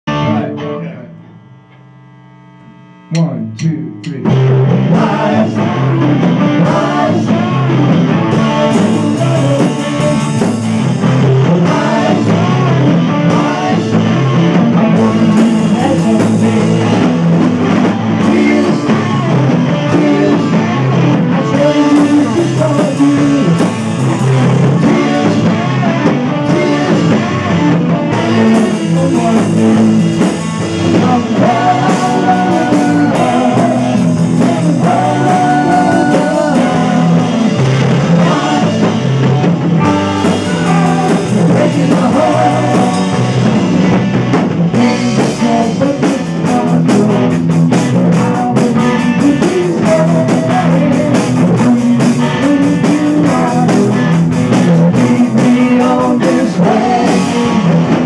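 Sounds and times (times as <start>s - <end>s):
drums: 0.0s - 2.0s, 2.6s - 58.0s
electric bass: 0.0s - 58.0s
electric guitars: 0.0s - 58.0s
person singing: 3.1s - 43.7s, 44.6s - 58.0s.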